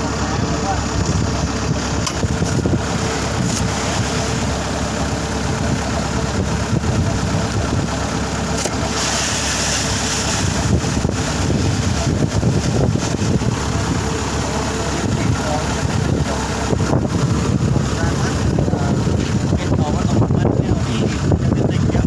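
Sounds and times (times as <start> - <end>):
engine running: 0.0 - 22.0
wind buffeting microphone: 0.8 - 8.0, 9.9 - 22.0.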